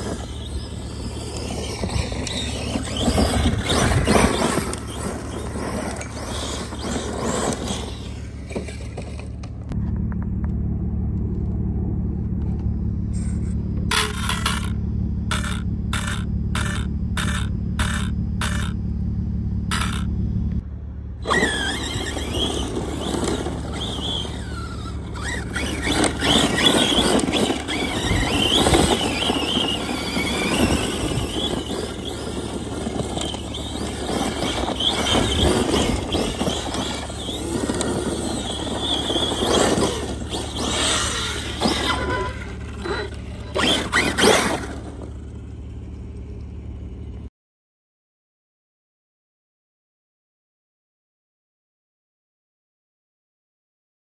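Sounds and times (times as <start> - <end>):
rc truck motor whine: 0.0 - 47.3
tyres spinning on dirt: 0.0 - 47.3.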